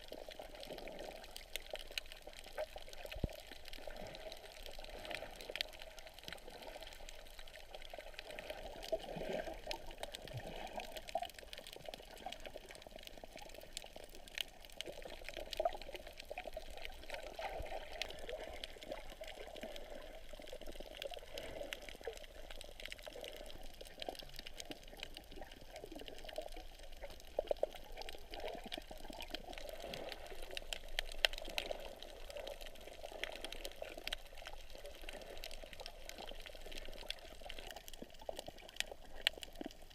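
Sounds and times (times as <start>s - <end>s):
faint underwater clicks: 0.0s - 39.9s
muffled underwater water rush: 0.0s - 39.9s.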